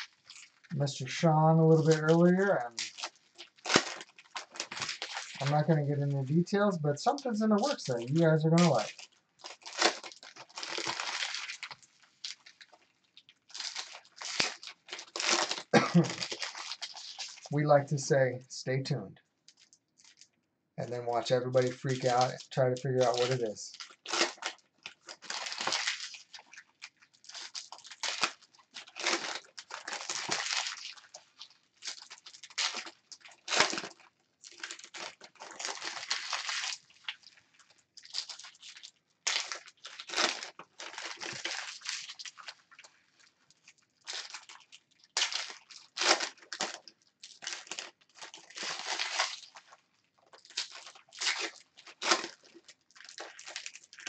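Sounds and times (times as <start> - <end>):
foil wrappers tearing and crinkling: 0.0 - 17.6, 19.5 - 20.3, 21.2 - 54.0.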